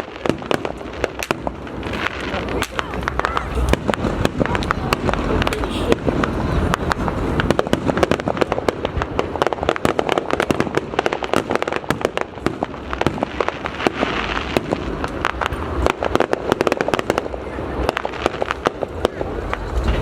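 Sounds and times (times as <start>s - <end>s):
fireworks barrage pops and bangs: 0.0s - 20.0s.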